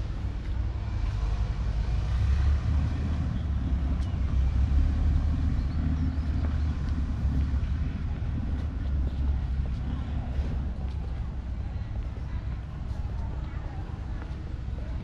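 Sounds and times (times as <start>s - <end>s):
large engine rumbling: 0.0s - 15.0s.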